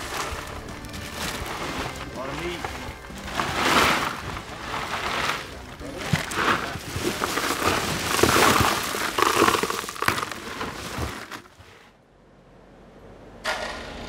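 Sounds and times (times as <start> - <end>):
ice cubes clattering: 0.0 - 11.8
hands pushing through ice: 0.0 - 11.9.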